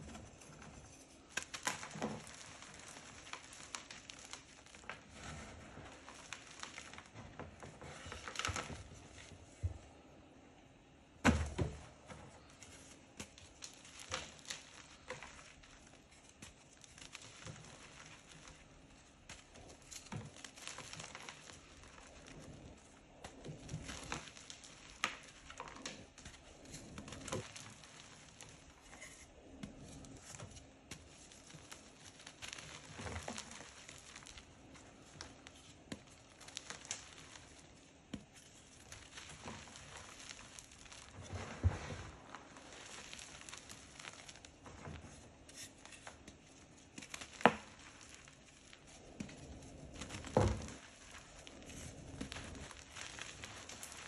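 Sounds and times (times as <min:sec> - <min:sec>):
chalk blocks crunching and crumbling: 0:00.0 - 0:09.4, 0:12.2 - 0:54.0
powder pattering down: 0:01.2 - 0:09.2, 0:12.4 - 0:54.0.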